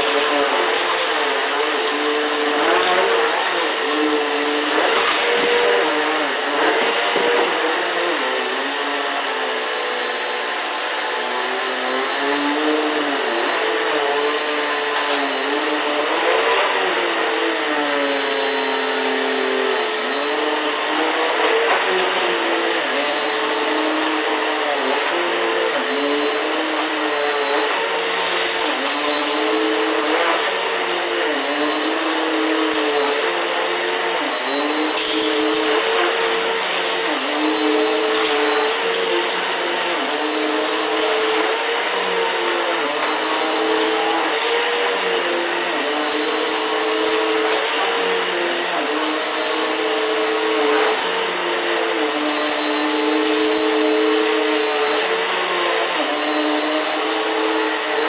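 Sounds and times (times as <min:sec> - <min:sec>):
upright vacuum running: 0:00.0 - 0:58.0.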